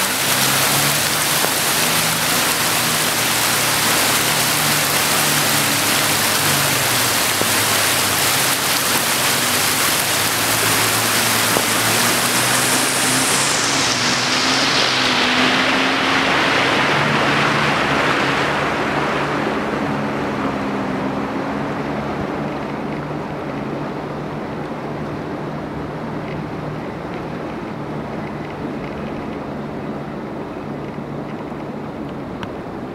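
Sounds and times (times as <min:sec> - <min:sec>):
river rushing over boulders: 0:00.0 - 0:32.9.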